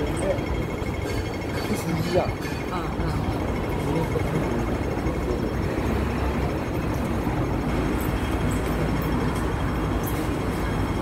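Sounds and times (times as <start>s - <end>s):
city background rumble and hiss: 0.0s - 11.0s.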